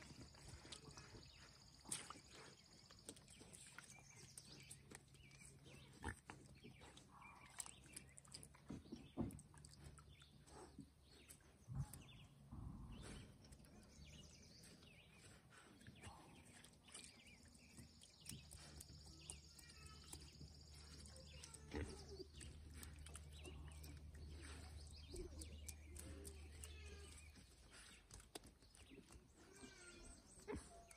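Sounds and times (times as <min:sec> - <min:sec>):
squelches in wet mud: 0:00.0 - 0:30.9.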